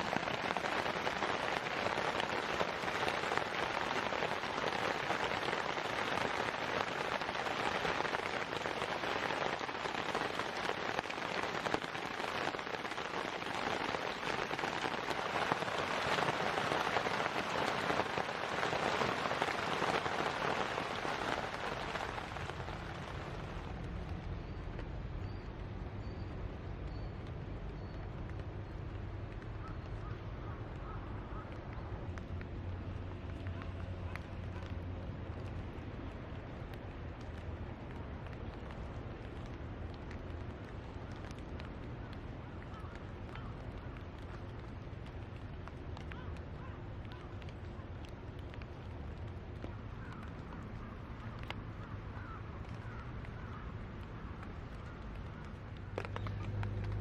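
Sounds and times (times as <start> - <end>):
rain pattering on a tarp: 0.0 - 57.0.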